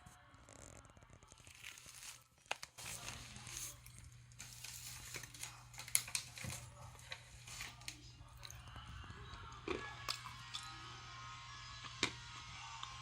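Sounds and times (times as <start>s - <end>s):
crinkling and crackling: 0.0s - 10.6s.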